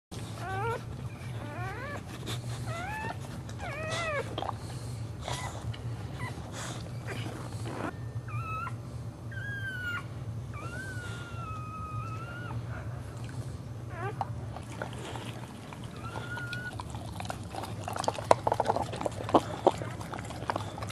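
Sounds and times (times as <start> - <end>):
steady low hum: 0.1 - 20.9
dog whimpering and squealing: 0.2 - 4.6, 5.2 - 12.9, 13.9 - 20.9.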